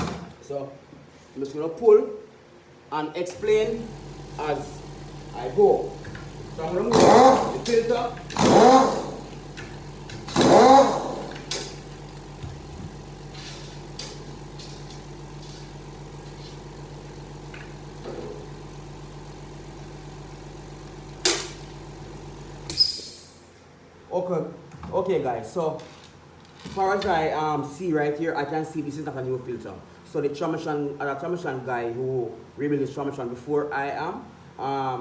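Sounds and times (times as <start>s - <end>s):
steady mechanical hum: 0.0s - 35.0s.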